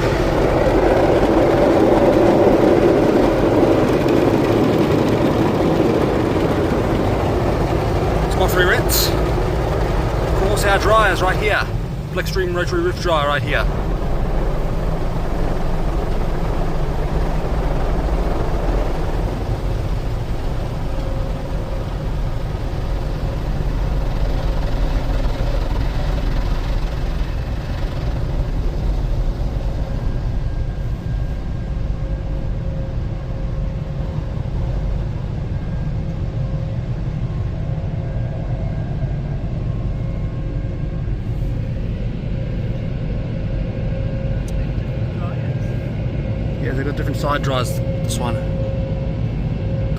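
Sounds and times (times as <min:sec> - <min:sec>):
dryer fans blowing air: 0:00.0 - 0:49.9.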